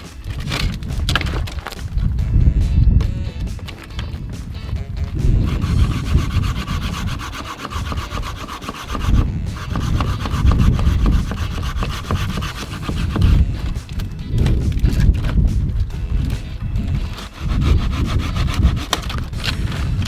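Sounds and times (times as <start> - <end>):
hand tool rasping and scraping: 0.0 - 2.2, 3.4 - 20.0.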